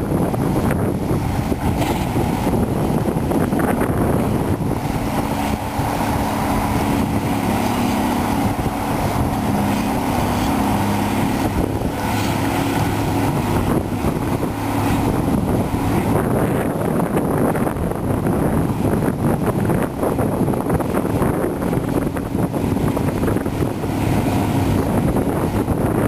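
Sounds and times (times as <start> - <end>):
excavator diesel engine droning: 0.0 - 26.0.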